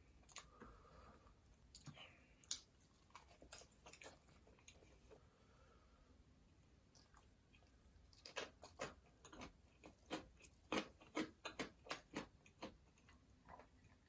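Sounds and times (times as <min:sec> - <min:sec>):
chewing food: 0:00.1 - 0:05.2, 0:06.8 - 0:14.0.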